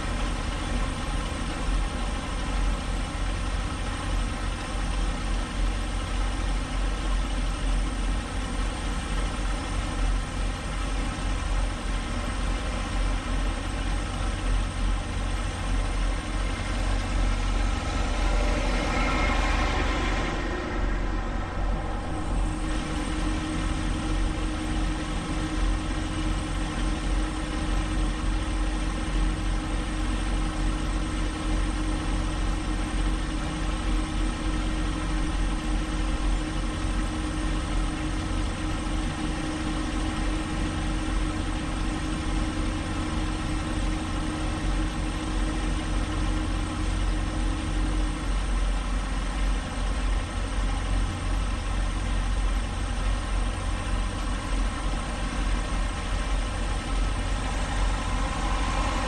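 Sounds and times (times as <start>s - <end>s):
diesel engine idling: 0.0s - 59.0s
steady higher hum: 0.0s - 59.0s.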